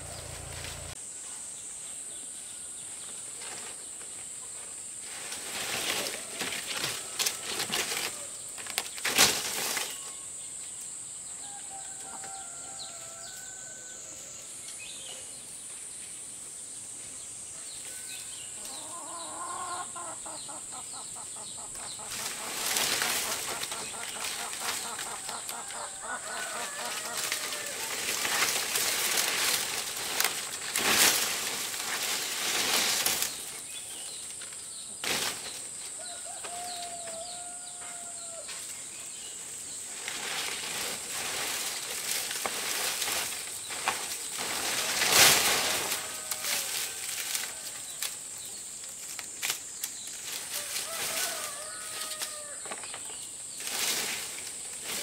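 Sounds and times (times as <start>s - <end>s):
dry palm fronds rustling: 0.0s - 1.0s, 2.9s - 10.2s, 18.6s - 55.0s.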